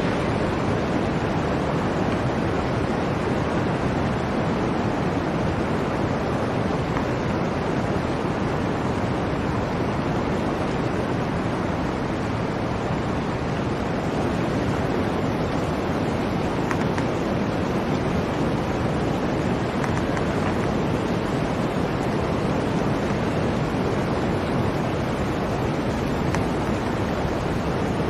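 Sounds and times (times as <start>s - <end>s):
blizzard wind: 0.0s - 28.0s.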